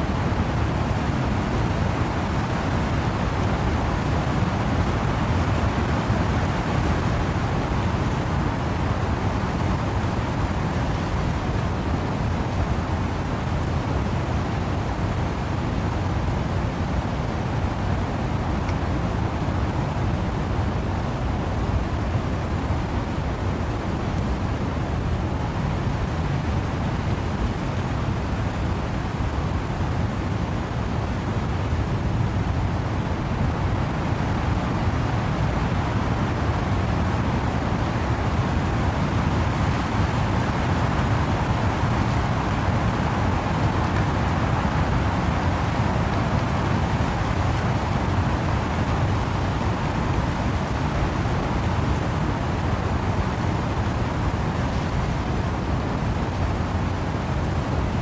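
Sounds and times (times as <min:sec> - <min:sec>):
wind in the trees: 0:00.0 - 0:58.0.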